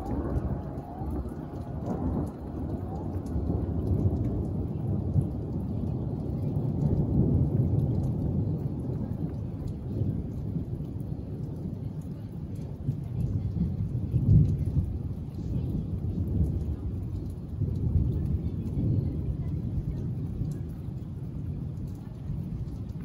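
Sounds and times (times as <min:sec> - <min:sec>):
rain falling: 0:00.0 - 0:23.0
rolling thunder: 0:00.0 - 0:23.0.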